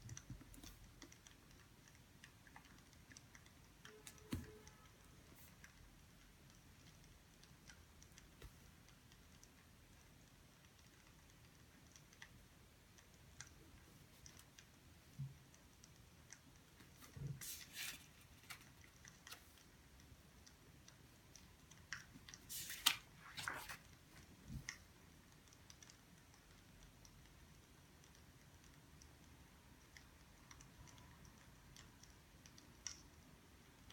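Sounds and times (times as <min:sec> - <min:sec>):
small clicks and rustles: 0:00.0 - 0:33.9.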